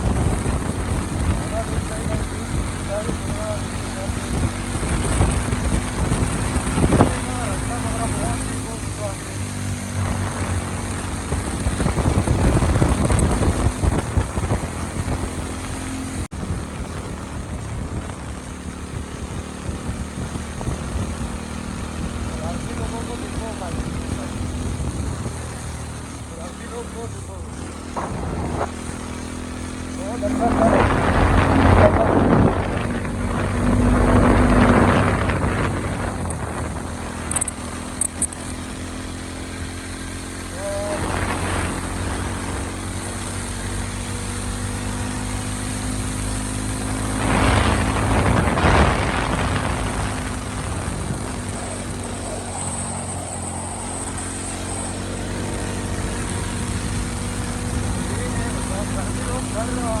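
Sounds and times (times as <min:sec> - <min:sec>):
motorcycle running: 0:00.0 - 1:00.0
wind rushing over microphone: 0:00.0 - 1:00.0.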